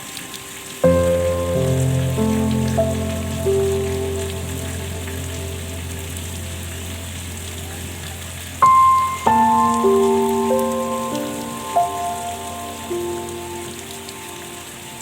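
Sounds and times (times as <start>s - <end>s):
ambient relaxation music: 0.0s - 15.0s
rain falling: 0.0s - 15.0s.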